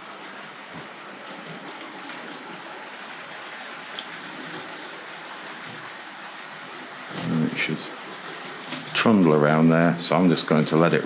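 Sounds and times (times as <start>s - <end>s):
model train running on track: 1.8s - 11.0s.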